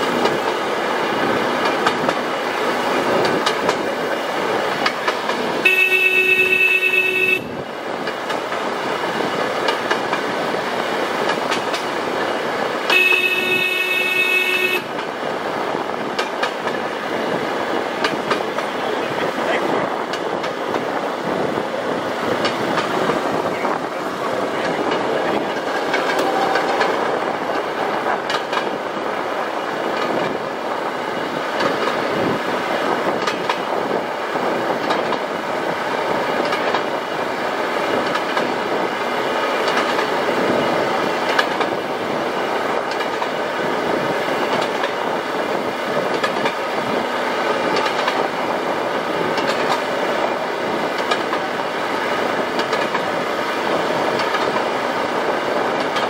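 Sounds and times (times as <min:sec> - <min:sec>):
rail vehicle engine and wheels: 0:00.0 - 0:56.0
wheels clacking over rail joints: 0:00.0 - 0:56.0.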